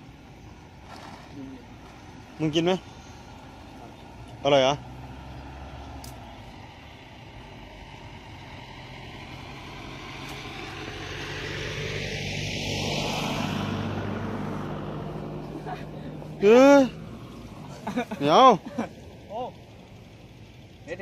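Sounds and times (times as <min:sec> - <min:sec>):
motor vehicle passing: 0:00.0 - 0:21.0.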